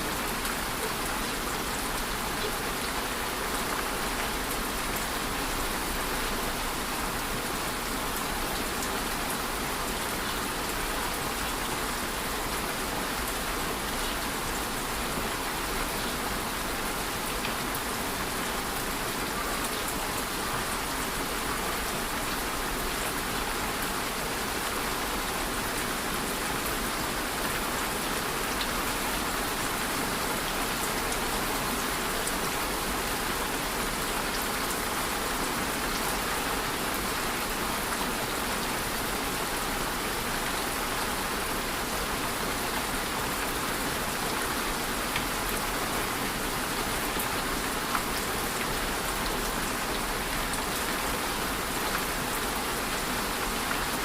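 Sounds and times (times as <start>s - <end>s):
rain pattering on surfaces: 0.0s - 54.0s.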